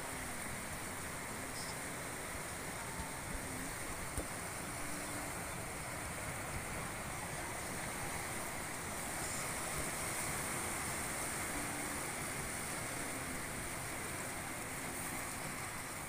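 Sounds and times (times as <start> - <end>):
waves washing over rocks: 0.0 - 16.0.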